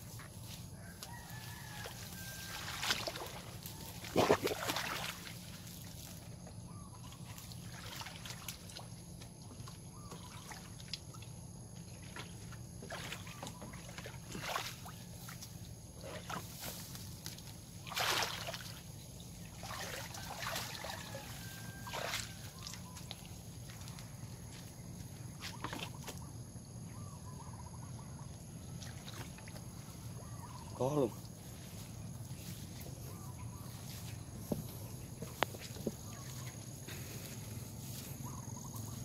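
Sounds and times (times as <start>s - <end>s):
water sloshing and splashing: 1.2s - 26.3s, 28.4s - 39.0s.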